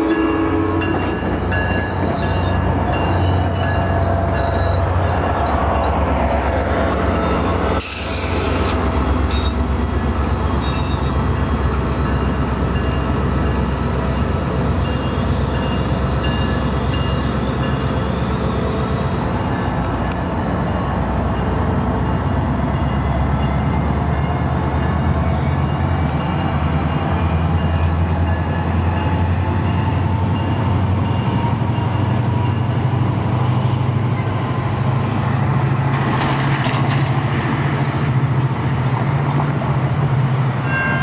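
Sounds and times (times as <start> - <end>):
diesel locomotive droning: 0.0 - 41.0.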